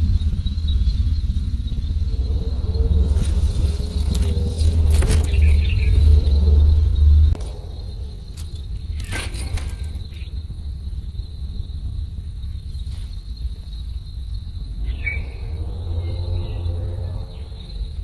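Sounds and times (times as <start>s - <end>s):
low microphone rumble: 0.0s - 17.9s
crickets chirping: 0.0s - 18.0s.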